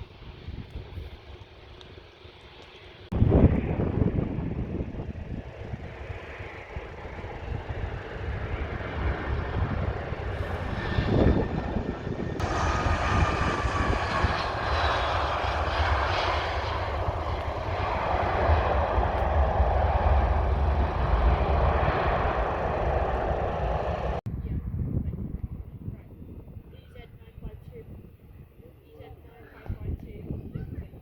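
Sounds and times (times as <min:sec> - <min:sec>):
faint engine whine: 0:00.0 - 0:24.8
aircraft engines roaring past: 0:00.0 - 0:31.0.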